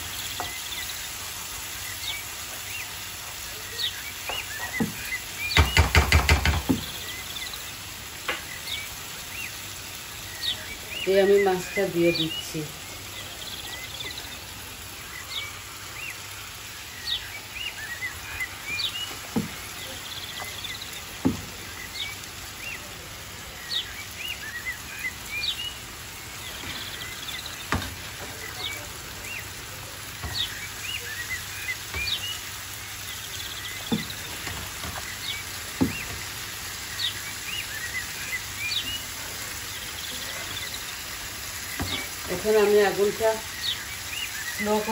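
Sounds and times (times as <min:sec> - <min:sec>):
fish and sauce sizzling in a pan: 0:00.0 - 0:44.9.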